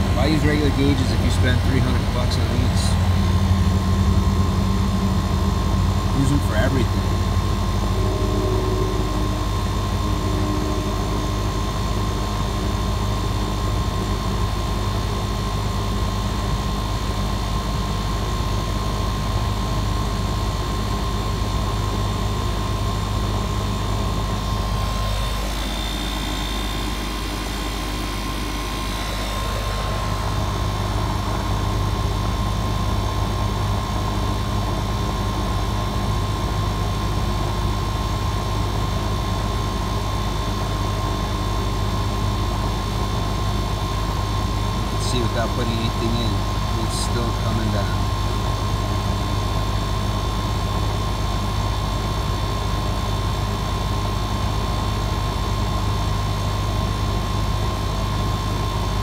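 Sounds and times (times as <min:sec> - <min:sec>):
air conditioner unit humming: 0:00.0 - 0:59.0.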